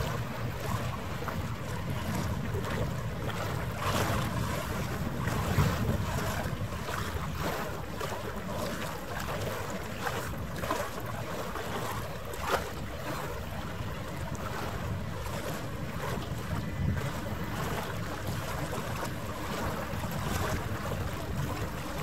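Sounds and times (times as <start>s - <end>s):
water lapping: 0.0s - 22.0s
wind buffeting microphone: 0.0s - 22.0s.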